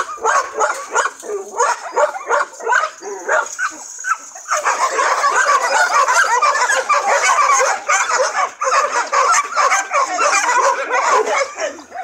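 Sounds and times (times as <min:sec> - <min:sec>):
many dogs barking: 0:00.0 - 0:12.0.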